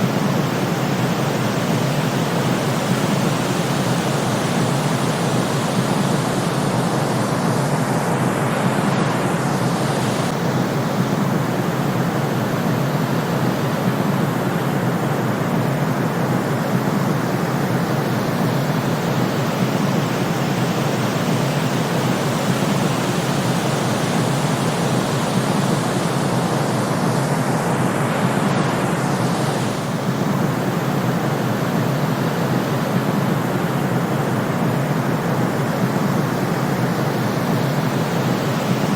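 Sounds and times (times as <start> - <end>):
synthetic white noise hiss: 0.0 - 38.9.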